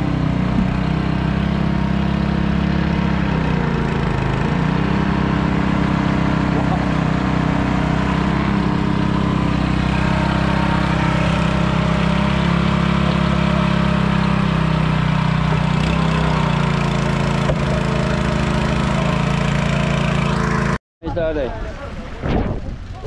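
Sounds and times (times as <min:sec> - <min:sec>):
boat engine running loudly: 0:00.0 - 0:20.8.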